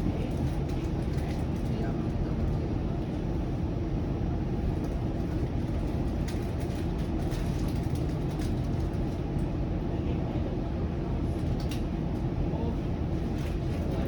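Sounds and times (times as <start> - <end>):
streetcar rumbling on track: 0.0 - 14.0.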